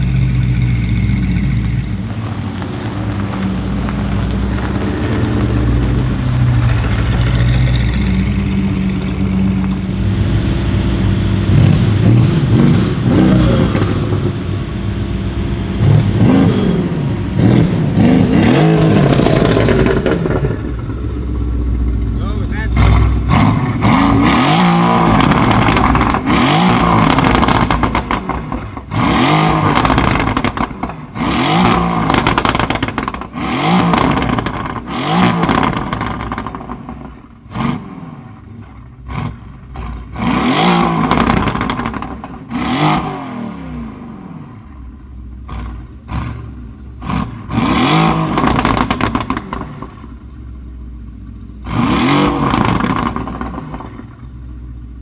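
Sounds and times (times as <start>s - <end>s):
exhaust crackles and pops: 0.0s - 43.2s, 44.6s - 55.0s
car engine revving: 0.0s - 55.0s.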